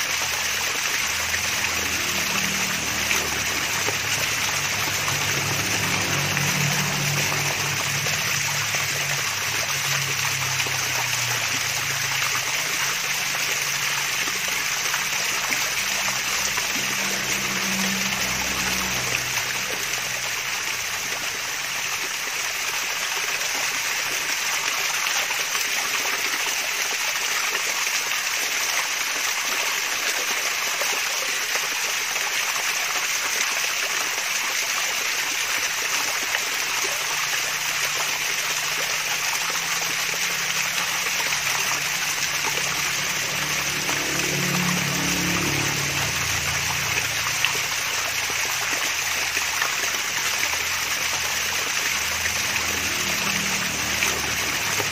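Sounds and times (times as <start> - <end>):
small waterfall splashing: 0.0 - 54.9.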